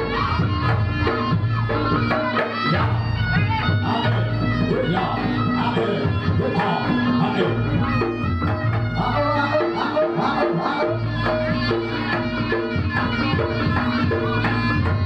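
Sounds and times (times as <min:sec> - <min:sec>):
reedy shawm melody: 0:00.0 - 0:15.0.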